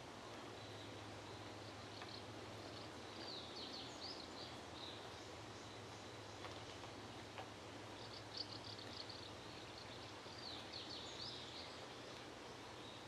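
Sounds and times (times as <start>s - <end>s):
steady outdoor hiss: 0.0s - 13.0s
birds chirping: 0.5s - 13.0s.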